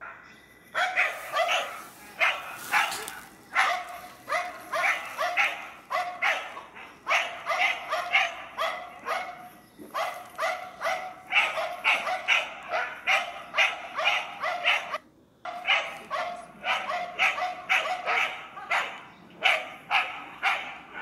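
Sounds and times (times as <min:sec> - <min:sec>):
dog barking: 0:00.0 - 0:21.0.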